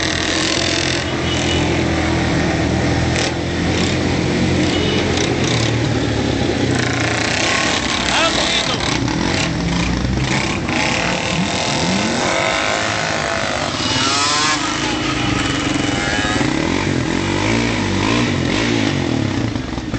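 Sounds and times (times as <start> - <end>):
motorbike engine revving: 0.0 - 19.9
motorbike engines running: 0.0 - 19.9.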